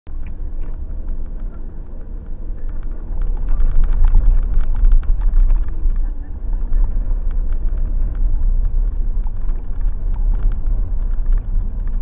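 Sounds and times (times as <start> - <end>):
car cabin road and engine noise: 0.1 - 12.0.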